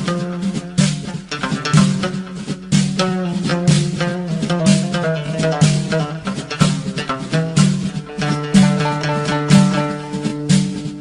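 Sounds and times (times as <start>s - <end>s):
plucked-string instrumental music: 0.0s - 11.0s.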